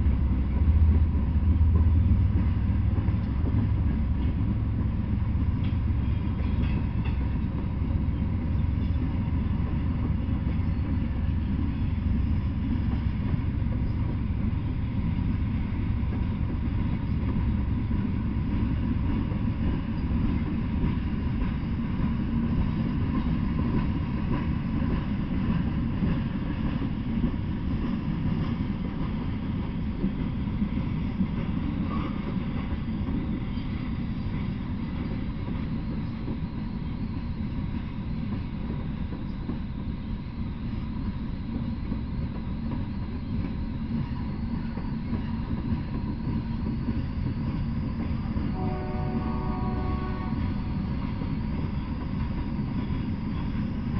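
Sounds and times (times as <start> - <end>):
freight train wheels rumbling on rail: 0.0 - 53.9.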